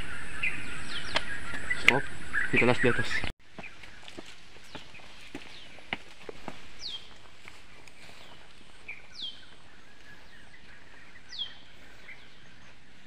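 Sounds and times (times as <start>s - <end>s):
bird chirps: 0.0s - 5.9s, 6.5s - 13.0s
steady outdoor hiss: 0.0s - 13.0s.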